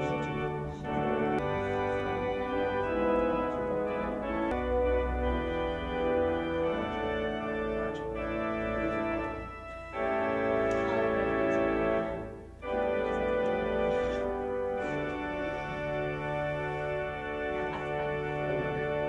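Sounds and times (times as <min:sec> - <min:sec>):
organ music sustained chords: 0:00.0 - 0:19.0.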